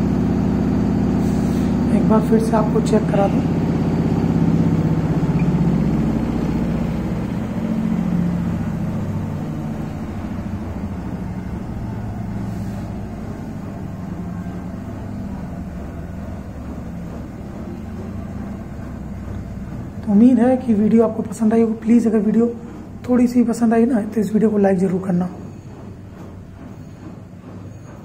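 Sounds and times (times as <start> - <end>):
washing machine spinning: 0.0 - 28.0.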